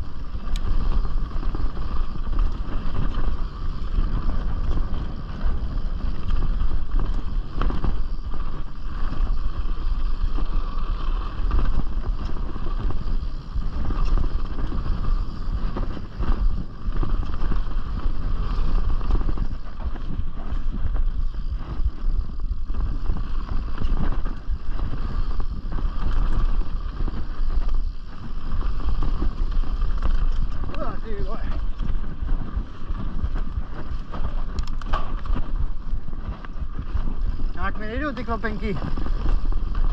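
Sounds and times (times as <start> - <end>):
bike rattles and knocks: 0.0 - 39.9
tyre noise on trail: 0.0 - 39.9
wind buffeting camera: 0.0 - 39.9.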